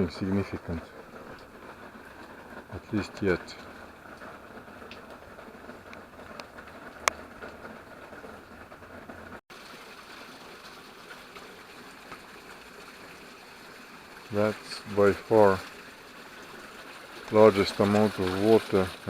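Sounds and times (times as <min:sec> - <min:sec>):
water pouring down rock: 0:00.0 - 0:19.0.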